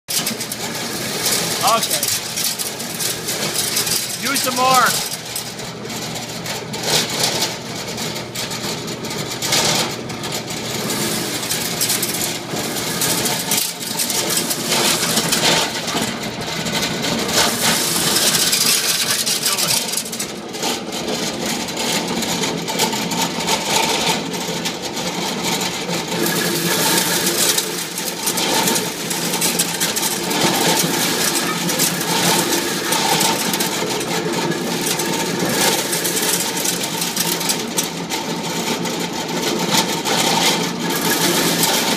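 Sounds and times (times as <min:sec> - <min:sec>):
corn sheller rattling: 0:00.1 - 0:41.9.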